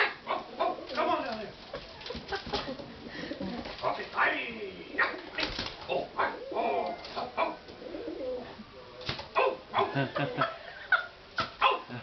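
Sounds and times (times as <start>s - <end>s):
pigeon cooing: 0.0s - 3.8s, 4.4s - 11.9s.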